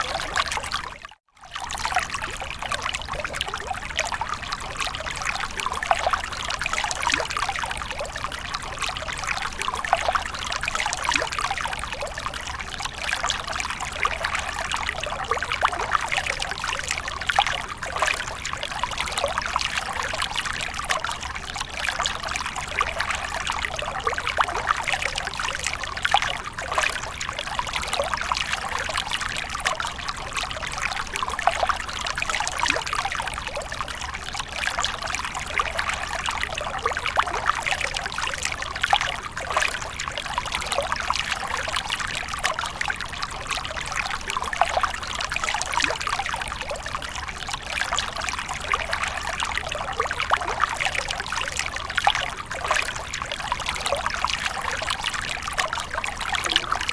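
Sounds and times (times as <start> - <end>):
water splashing and trickling: 0.0 - 56.9.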